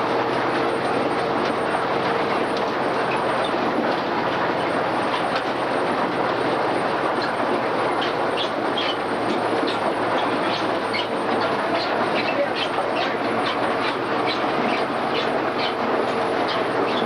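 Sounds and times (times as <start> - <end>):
tractor and harvester running: 0.0 - 17.0.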